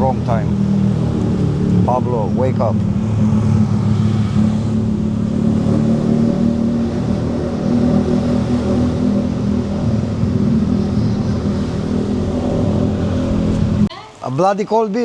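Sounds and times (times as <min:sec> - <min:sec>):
car engine hum: 0:00.0 - 0:13.9
road noise: 0:00.0 - 0:15.0.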